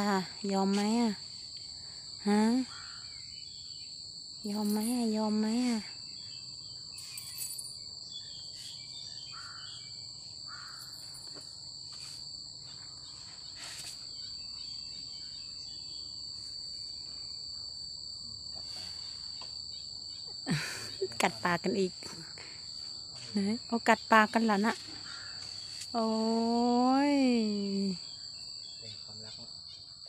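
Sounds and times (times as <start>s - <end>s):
faint outdoor hiss: 0.0s - 30.0s
insects trilling: 0.0s - 30.0s.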